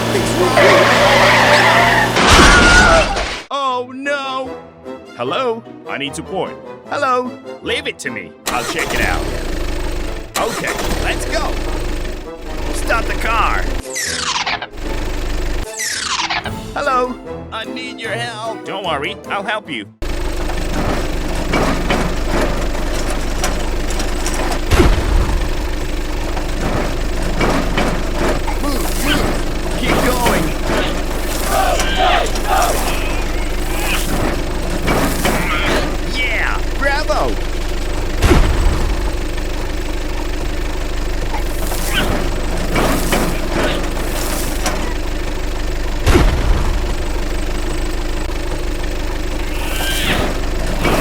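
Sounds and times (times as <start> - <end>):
vehicle engine rumbling: 0.0 - 3.2, 8.7 - 15.7, 20.0 - 51.0.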